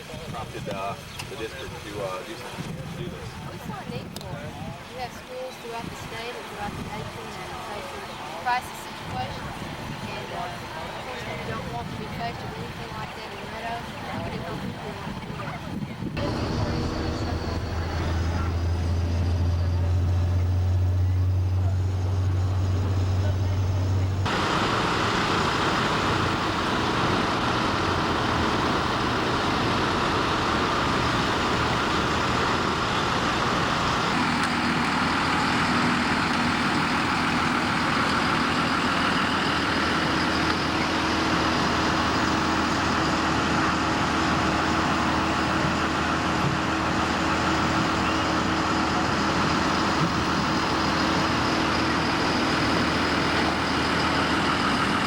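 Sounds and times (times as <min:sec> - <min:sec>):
heavy vehicle engine running: 0:05.6 - 0:55.0.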